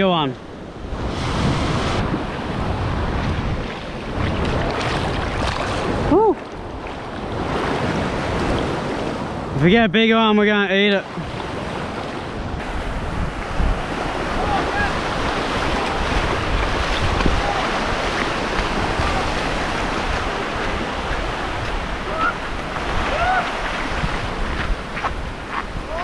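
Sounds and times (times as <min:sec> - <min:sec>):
surf breaking on beach: 0:00.0 - 0:26.0
wind buffeting microphone: 0:00.4 - 0:09.6, 0:11.1 - 0:26.0.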